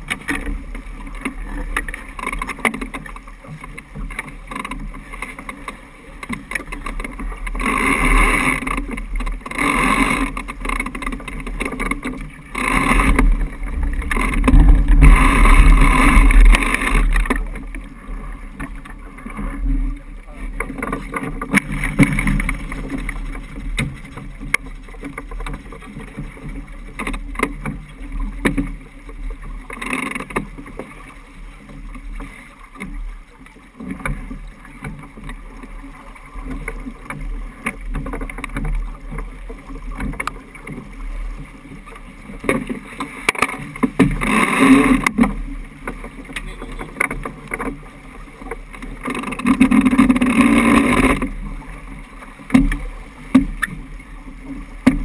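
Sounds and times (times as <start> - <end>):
water rushing along a hull: 0.0 - 55.0.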